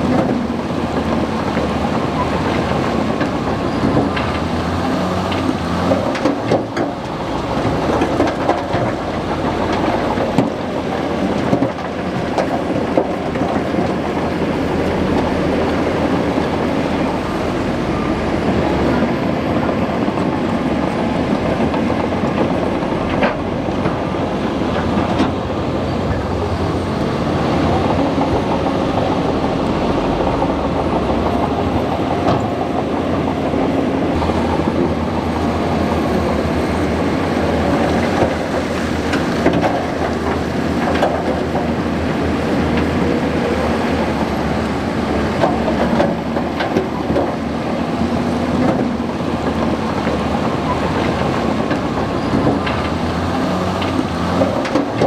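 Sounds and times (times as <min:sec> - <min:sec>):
diesel engine under load: 0:00.0 - 0:55.0
steel tracks clanking: 0:00.0 - 0:55.0.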